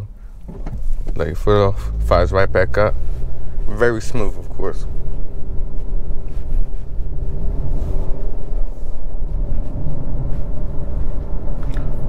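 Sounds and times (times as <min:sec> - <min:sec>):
car engine running: 0:00.0 - 0:12.0
road noise rumble: 0:00.0 - 0:12.0.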